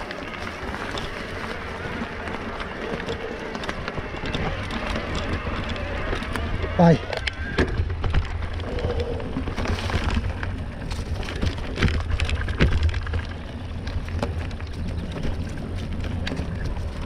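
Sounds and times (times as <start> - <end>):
bike tyres crackling over leaves: 0.0 - 17.0
steady low rumble: 0.0 - 17.0.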